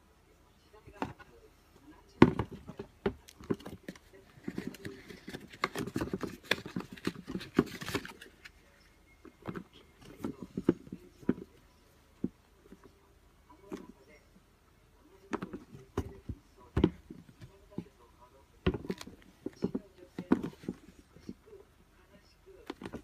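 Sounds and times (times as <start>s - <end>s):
rustling: 0.8s - 14.3s, 15.1s - 21.8s.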